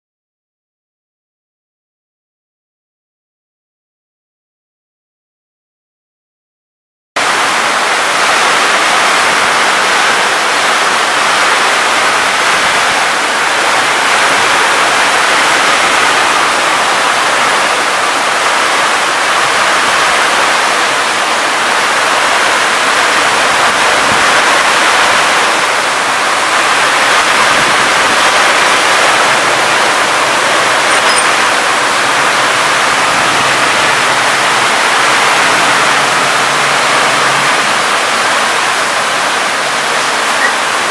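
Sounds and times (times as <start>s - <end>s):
heavy rain on roofs and pavement: 7.2s - 40.9s
water streaming off roof edges: 7.2s - 40.9s.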